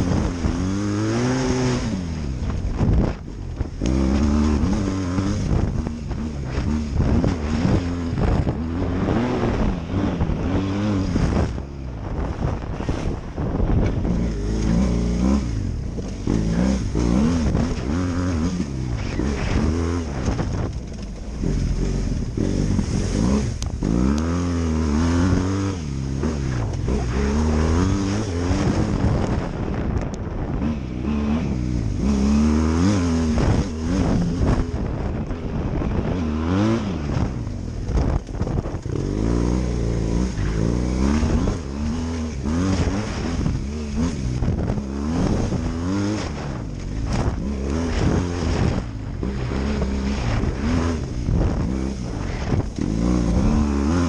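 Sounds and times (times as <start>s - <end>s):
constant rushing noise: 0.0s - 54.0s
motorcycle engine revving: 0.0s - 54.0s.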